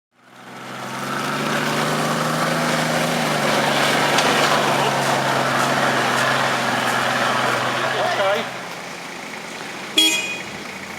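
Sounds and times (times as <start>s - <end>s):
diesel engine running: 0.2s - 10.9s.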